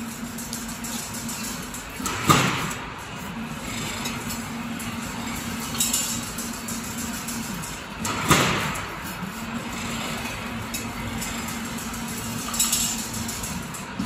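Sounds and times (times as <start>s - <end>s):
machine motor hum: 0.0s - 14.0s
sharp machine rattle: 0.0s - 14.0s.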